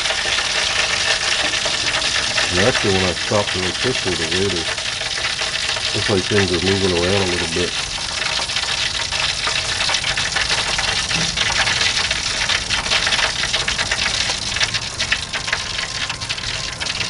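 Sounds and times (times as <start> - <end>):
fat sizzling in a drip pan: 0.0 - 17.0.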